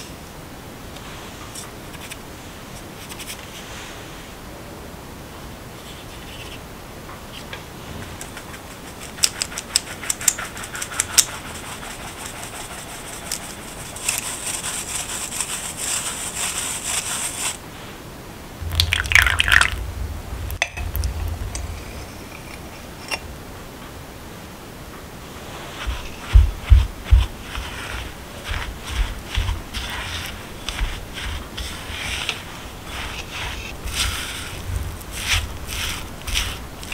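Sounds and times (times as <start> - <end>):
flour sifting hiss: 1.0 - 4.4, 7.7 - 23.2, 25.2 - 36.9.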